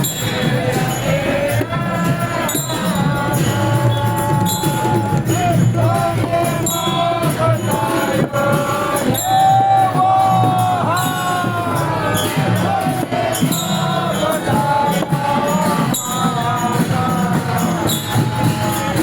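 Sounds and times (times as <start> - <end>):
jingling cymbal-like percussion: 0.0 - 19.0
steady percussion: 0.0 - 19.0.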